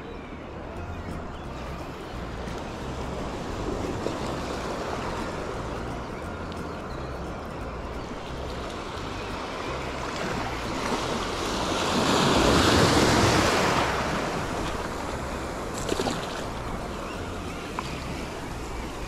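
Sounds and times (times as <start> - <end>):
sea waves breaking over rocks: 0.7 - 19.0.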